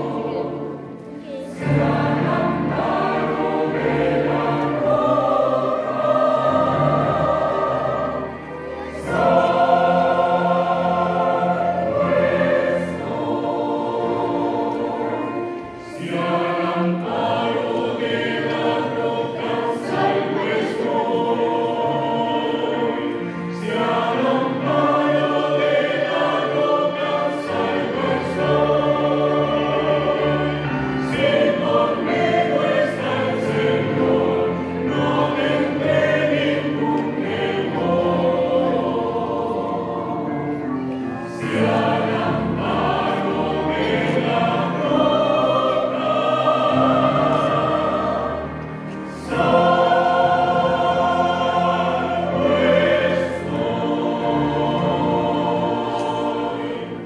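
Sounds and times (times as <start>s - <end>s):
choir singing a hymn: 0.0s - 57.0s
piano accompaniment: 0.0s - 57.0s.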